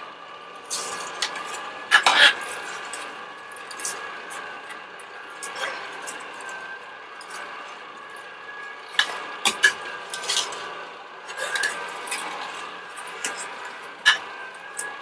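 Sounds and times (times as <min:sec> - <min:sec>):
juicer humming: 0:00.0 - 0:15.0.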